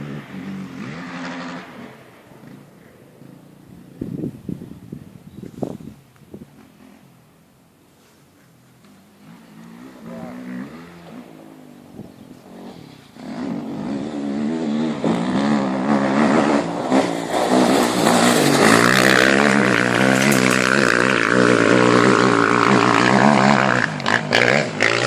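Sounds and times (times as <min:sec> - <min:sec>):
motorcycle engine revving hard: 0:00.0 - 0:04.7, 0:09.0 - 0:25.0.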